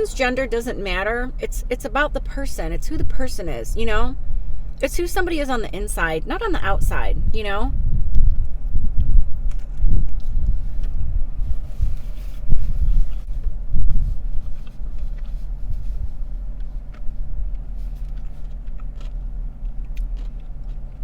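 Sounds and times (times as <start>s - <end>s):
car idling rumble inside cabin: 0.0s - 8.6s, 10.5s - 21.0s.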